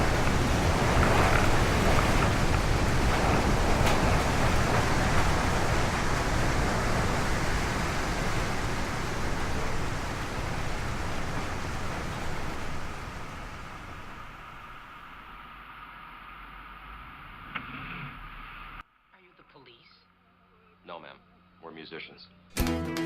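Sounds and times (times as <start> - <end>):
car driving through blizzard: 0.0 - 18.8.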